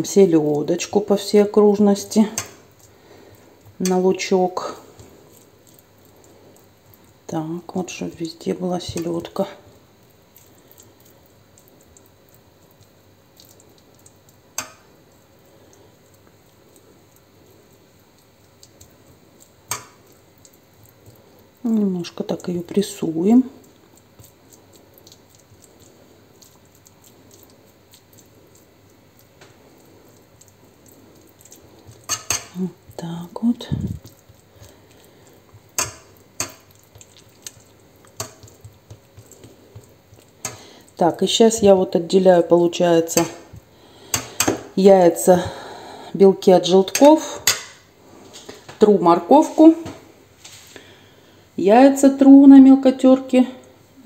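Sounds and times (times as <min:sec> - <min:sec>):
fork patting diced fish: 0:00.8 - 0:42.2, 0:43.0 - 0:45.6, 0:46.6 - 0:47.8.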